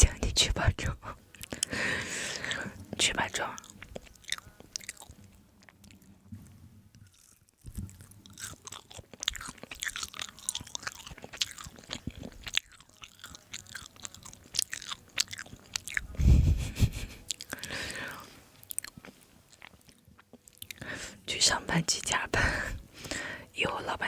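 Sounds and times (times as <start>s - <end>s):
person chewing soft food: 1.3s - 21.2s.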